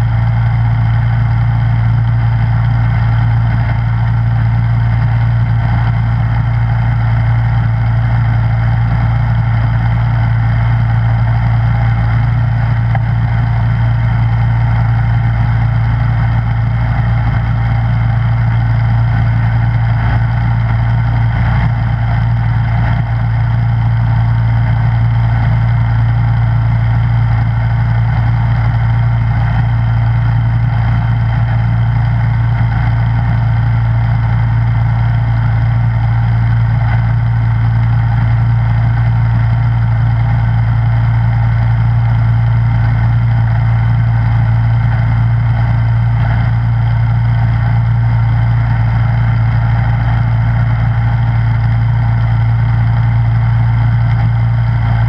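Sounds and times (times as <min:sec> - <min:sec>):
snowblower engine running: 0:00.0 - 0:55.0.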